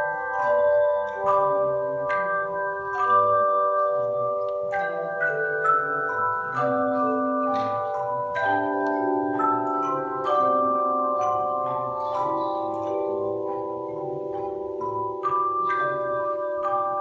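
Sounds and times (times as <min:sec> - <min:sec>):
handbell choir playing: 0:00.0 - 0:17.0.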